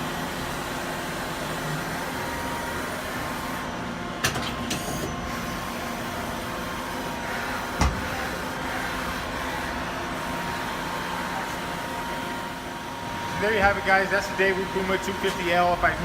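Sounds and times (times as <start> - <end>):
lathe mechanical hum: 0.0 - 16.0.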